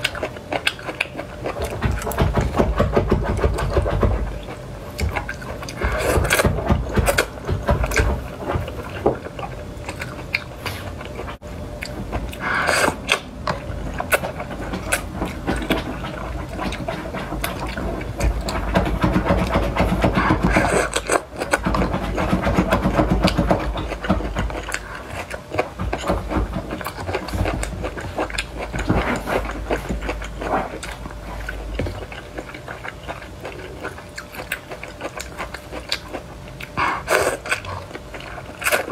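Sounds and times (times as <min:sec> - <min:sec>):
slurping and chewing noodles: 0:00.0 - 0:38.9.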